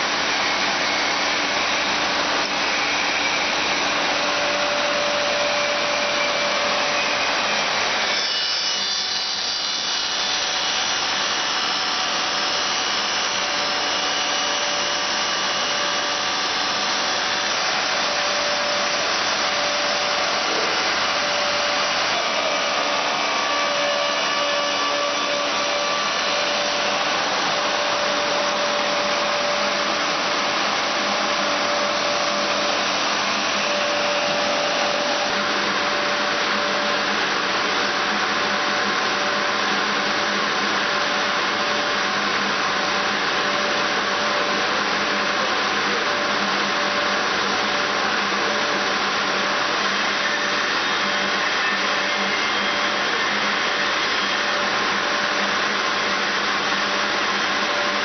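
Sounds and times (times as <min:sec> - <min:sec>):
wood cutting machine whine: 0:00.0 - 0:58.0.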